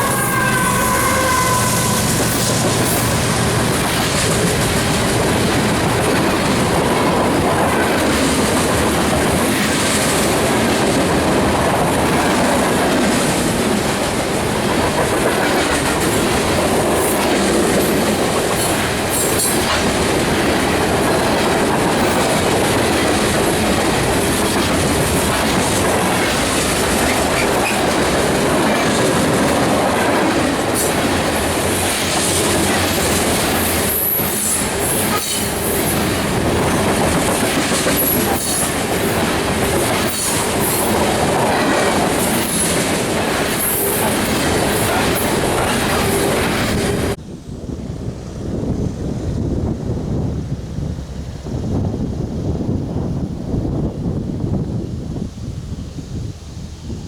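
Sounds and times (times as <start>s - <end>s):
train wheels clicking over rail joints: 0.0s - 53.2s
freight train rumbling past: 0.0s - 57.0s.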